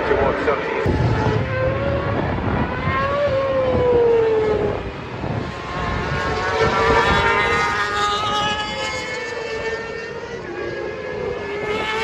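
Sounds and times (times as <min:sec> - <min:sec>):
race motorcycles passing: 0:01.4 - 0:12.0.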